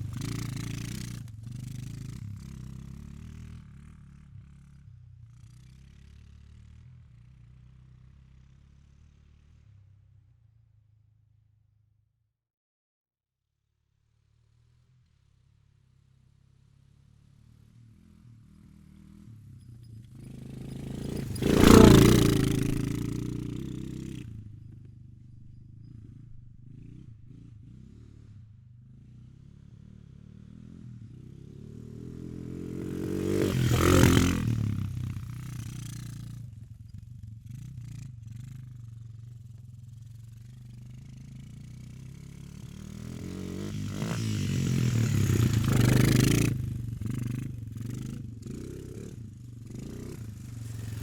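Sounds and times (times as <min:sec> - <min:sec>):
quad bike engine passing: 0:00.0 - 0:10.3, 0:14.1 - 0:51.0.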